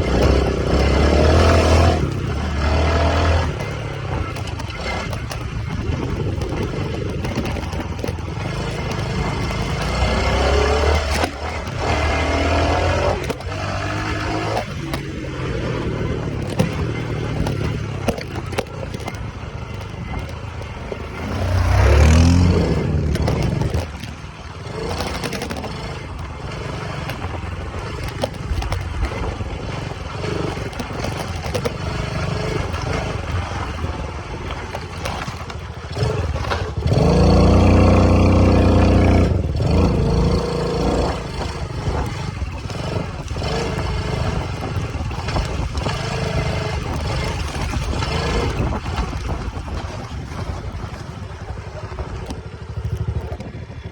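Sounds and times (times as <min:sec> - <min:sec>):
dirt bike engine revving: 0:00.0 - 0:53.9
rattling and scraping: 0:00.0 - 0:53.9.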